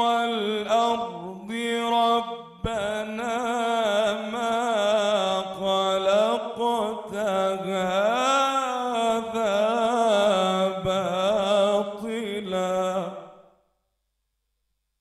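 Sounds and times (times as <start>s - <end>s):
man reciting melodic chant: 0.0s - 13.2s.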